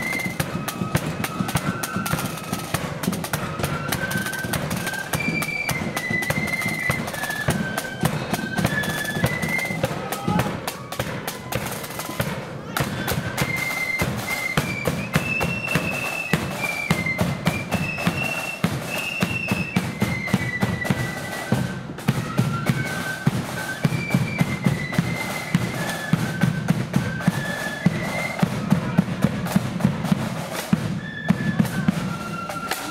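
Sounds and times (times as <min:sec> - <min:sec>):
flutes playing in unison: 0:00.0 - 0:32.9.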